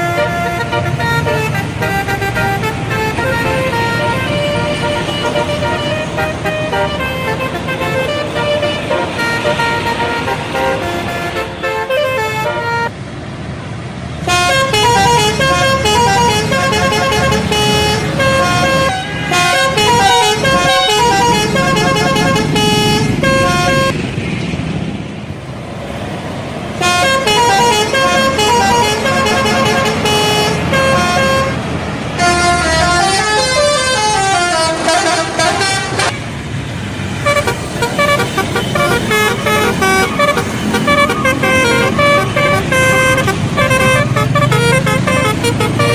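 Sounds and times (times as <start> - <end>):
bus air-horn melody: 0.0 - 12.9, 14.2 - 24.0, 26.8 - 36.2, 37.2 - 45.9.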